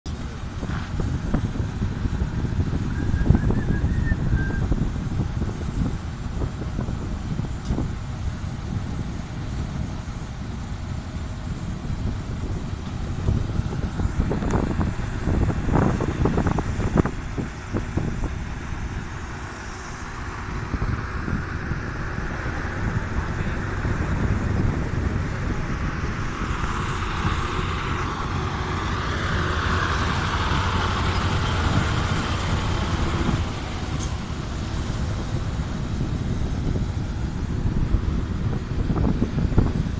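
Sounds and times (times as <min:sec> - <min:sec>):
diesel truck engines rumbling: 0:00.0 - 0:39.9.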